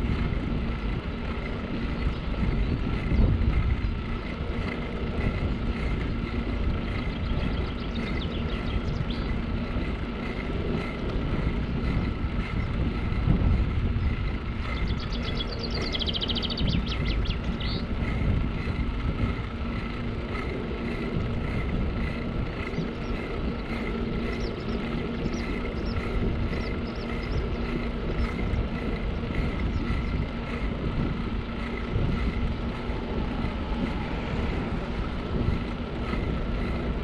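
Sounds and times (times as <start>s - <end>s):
bicycle tyre rumble: 0.0s - 37.0s
wind on microphone: 0.0s - 37.0s.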